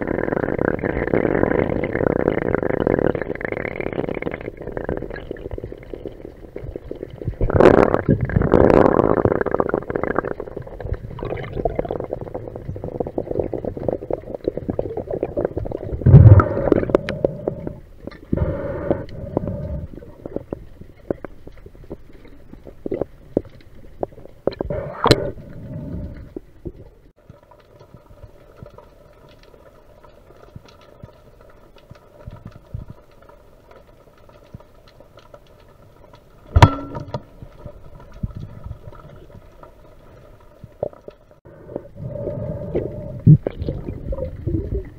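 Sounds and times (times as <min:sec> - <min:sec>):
faint steady hum: 0:00.0 - 0:44.9
water swishing and gurgling: 0:00.0 - 0:44.9.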